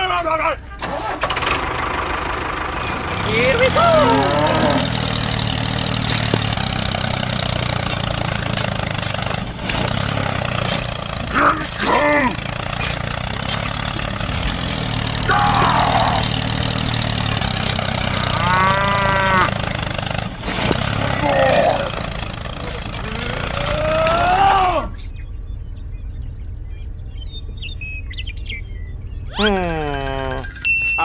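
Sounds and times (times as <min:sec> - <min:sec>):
tractor engine humming: 0:00.0 - 0:29.2.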